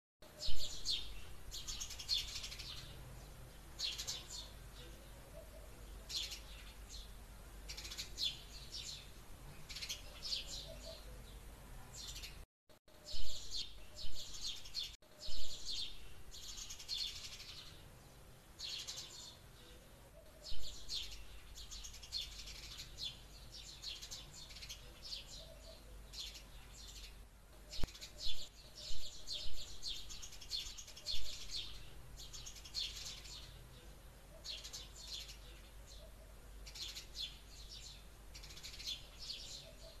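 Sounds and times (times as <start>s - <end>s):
small birds trilling: 0.4s - 12.4s, 13.0s - 40.0s.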